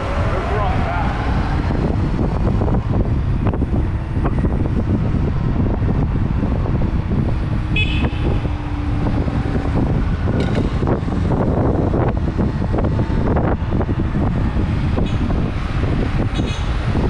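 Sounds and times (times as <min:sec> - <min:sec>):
tyre and road rumble: 0:00.0 - 0:17.0
wind on microphone: 0:00.0 - 0:17.0.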